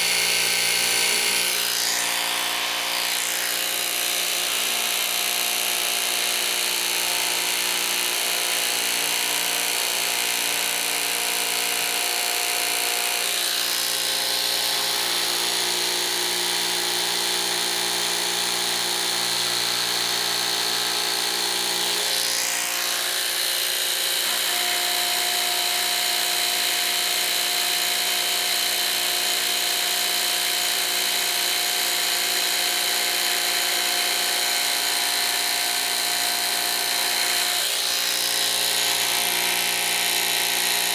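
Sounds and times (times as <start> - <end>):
jigsaw cutting wood: 0.0 - 40.9.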